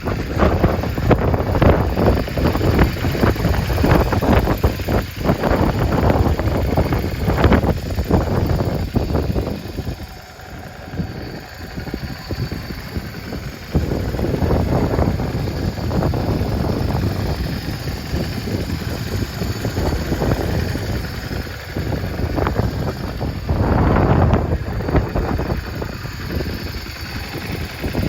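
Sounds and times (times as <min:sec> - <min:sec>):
motorcycle engine uneven beat: 0:00.0 - 0:28.0.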